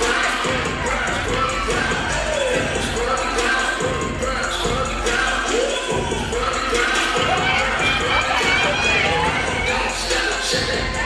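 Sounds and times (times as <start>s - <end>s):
audience cheering and shouting: 0.0s - 11.0s
music playing: 0.0s - 11.0s.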